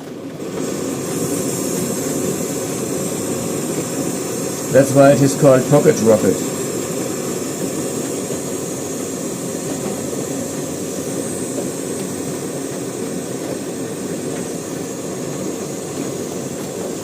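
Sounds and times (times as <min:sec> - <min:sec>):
gas stove flame hissing: 0:00.0 - 0:17.0.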